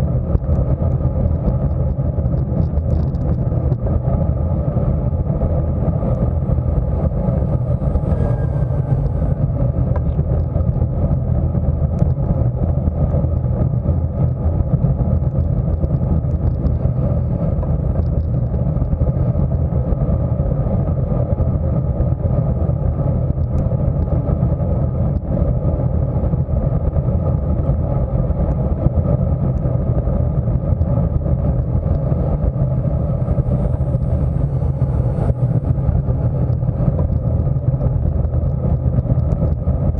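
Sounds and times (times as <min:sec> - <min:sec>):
tyre noise on road: 0:00.0 - 0:39.9
wind rush on microphone: 0:00.0 - 0:39.9.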